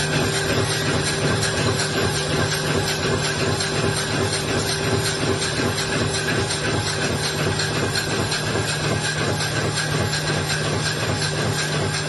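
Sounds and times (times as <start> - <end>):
constant machine hum: 0.0 - 12.0
printing press clattering: 0.0 - 12.0.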